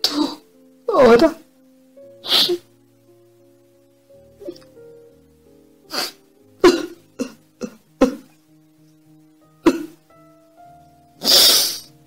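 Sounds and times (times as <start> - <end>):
soft classical piano music: 0.0 - 12.0.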